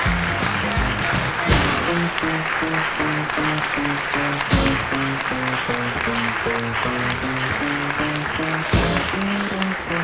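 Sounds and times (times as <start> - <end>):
audience applauding: 0.0 - 10.0
background music with beat: 0.0 - 10.0.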